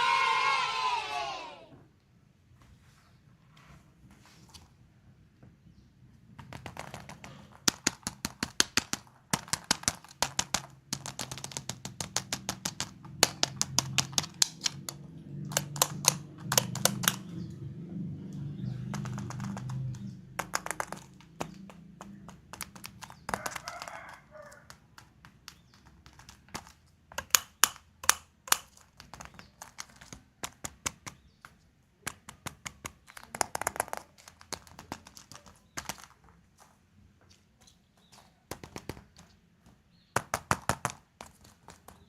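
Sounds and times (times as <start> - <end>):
clicks and taps of toy packaging: 6.4 - 17.5, 18.4 - 42.0.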